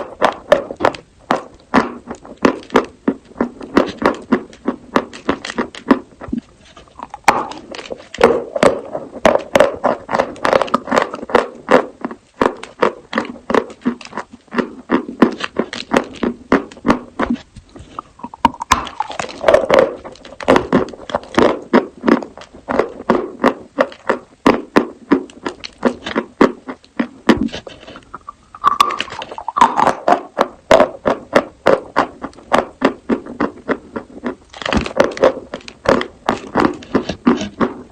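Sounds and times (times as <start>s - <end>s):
crunching and chewing chalk: 0.0s - 37.9s.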